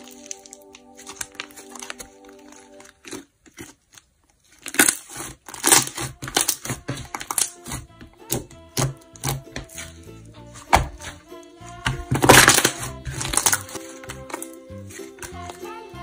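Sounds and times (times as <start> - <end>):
slime popping and crackling: 0.0 - 9.8, 11.8 - 15.5.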